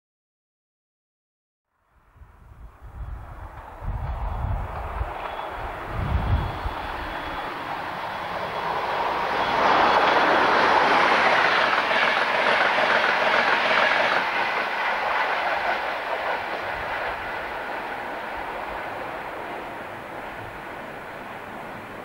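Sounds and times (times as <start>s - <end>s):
train passing at speed: 1.9s - 22.0s
wheels clattering on rails: 3.4s - 21.8s.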